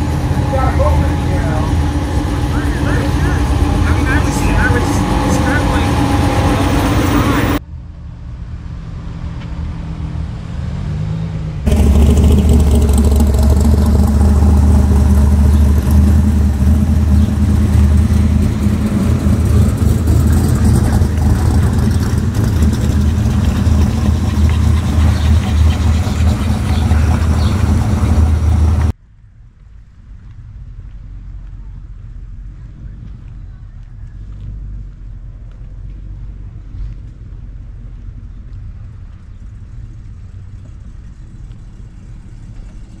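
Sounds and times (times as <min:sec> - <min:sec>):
car engines rumbling: 0:00.0 - 0:43.0.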